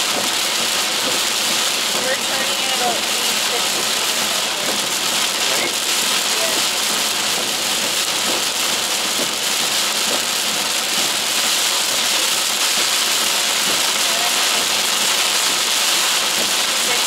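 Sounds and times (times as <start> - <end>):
heavy rain on car roof: 0.0 - 17.0.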